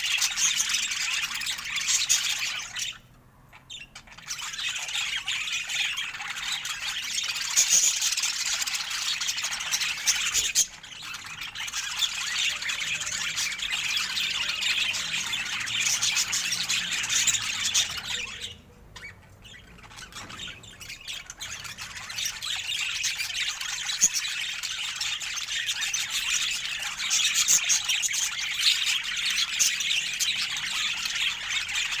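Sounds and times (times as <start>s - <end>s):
budgerigars chattering and squawking: 0.0s - 32.0s.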